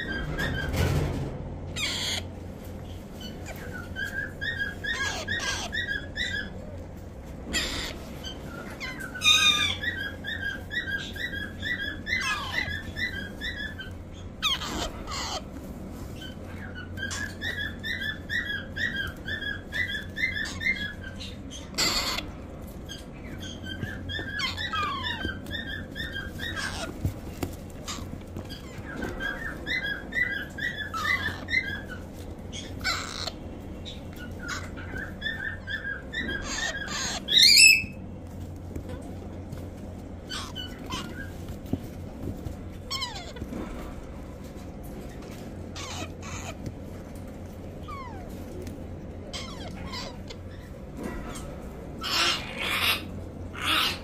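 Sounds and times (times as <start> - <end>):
parakeet chicks chattering calls: 0.0 - 54.0
parakeet chicks squawking: 0.0 - 54.0.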